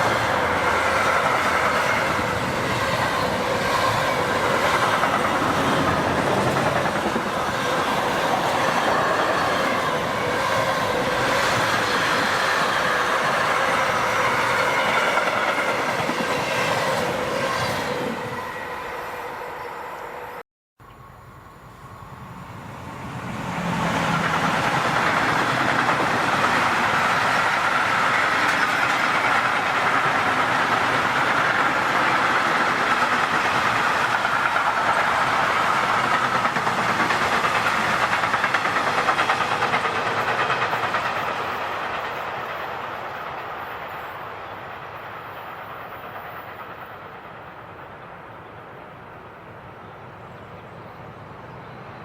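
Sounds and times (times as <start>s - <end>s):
train passing on rails: 0.0s - 20.4s, 21.0s - 52.0s.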